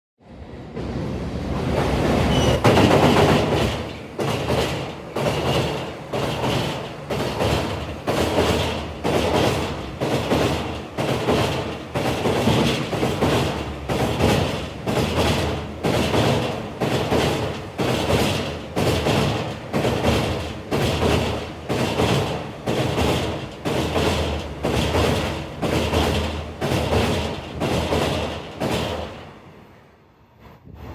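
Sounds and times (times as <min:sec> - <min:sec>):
train wheels rushing on rails: 0:00.2 - 0:30.9
wheels clacking over rail joints: 0:01.5 - 0:29.3.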